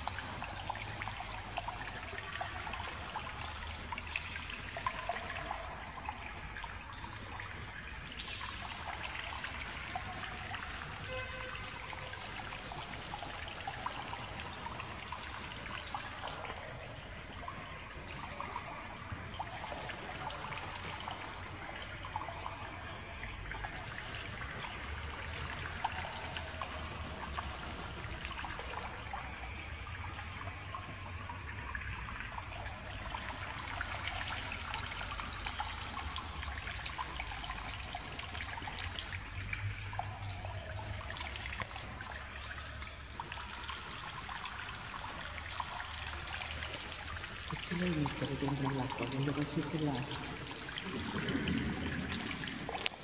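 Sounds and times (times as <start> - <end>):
water trickling into pool: 0.0 - 53.0.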